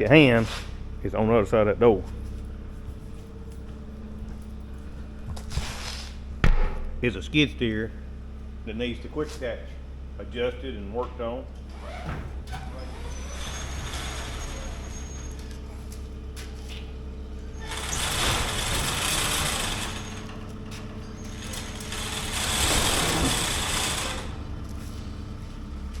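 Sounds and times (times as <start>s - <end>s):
skid steer engine running: 0.0s - 26.0s.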